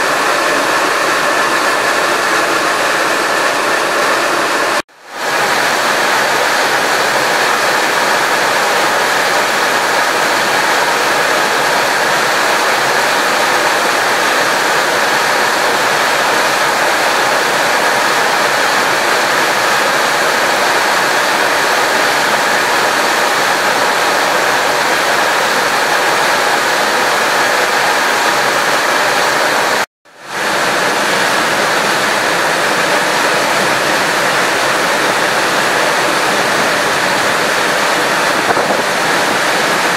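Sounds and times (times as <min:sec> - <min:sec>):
fast-flowing water rushing: 0:00.0 - 0:39.9
heavy rain: 0:00.0 - 0:39.9.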